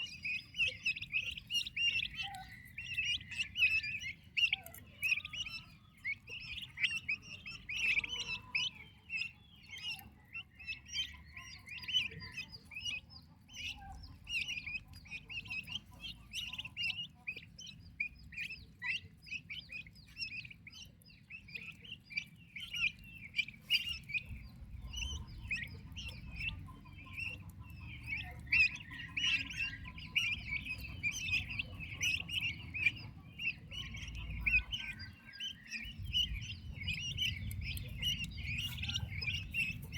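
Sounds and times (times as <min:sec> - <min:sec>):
turkey poults peeping: 0:00.0 - 0:39.9.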